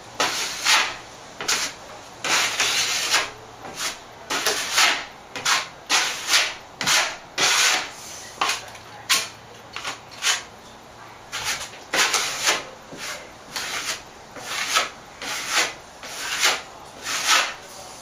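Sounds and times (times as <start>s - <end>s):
trowel scraping plaster: 0.2s - 10.5s, 11.3s - 17.6s.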